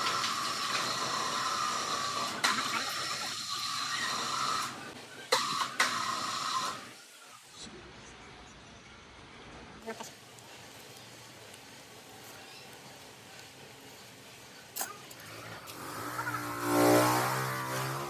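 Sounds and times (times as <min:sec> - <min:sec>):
hissing workshop machine hum: 0:00.0 - 0:07.7, 0:09.9 - 0:18.0.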